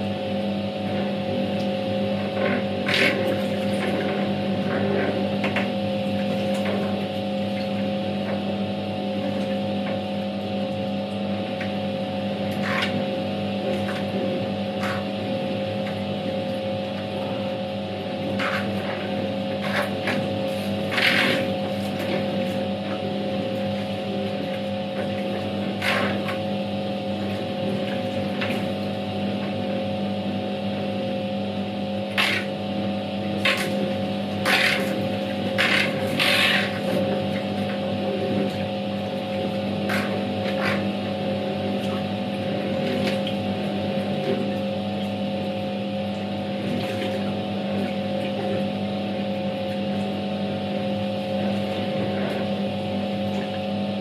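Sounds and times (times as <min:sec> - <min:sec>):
impeller churning laundry: 0:00.0 - 0:54.0
washing machine motor hum: 0:00.0 - 0:54.0.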